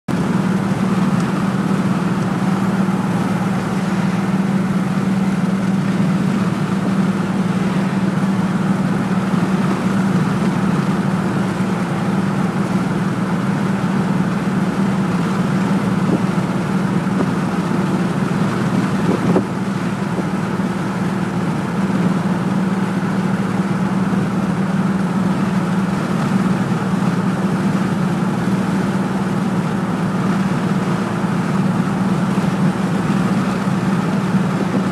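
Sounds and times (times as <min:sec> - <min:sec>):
car cabin road and engine drone: 0:00.1 - 0:34.9.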